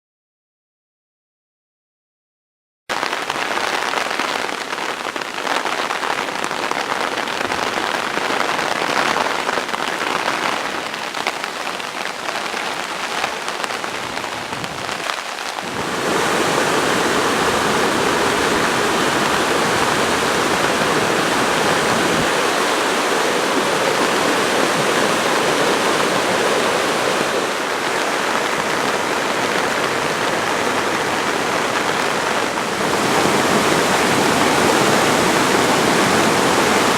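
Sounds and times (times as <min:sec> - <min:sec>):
river water rushing: 0:02.9 - 0:36.9.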